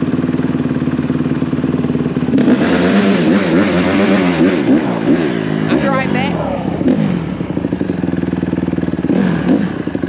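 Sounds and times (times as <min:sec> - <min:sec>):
dirt bike engine idling and revving: 0:00.0 - 0:10.0.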